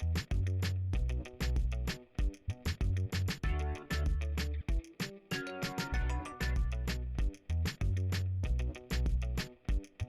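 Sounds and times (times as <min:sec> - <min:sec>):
music with steady beat bass and guitar: 0:00.0 - 0:10.0.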